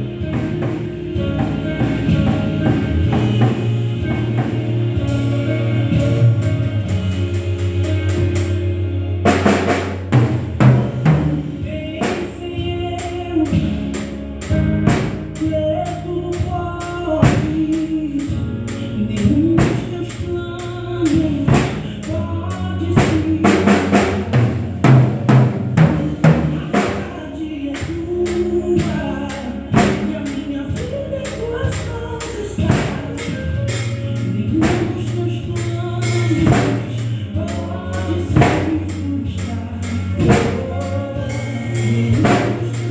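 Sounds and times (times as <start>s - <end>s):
drum kit playing: 0.0s - 42.9s
gospel band music: 0.0s - 42.9s.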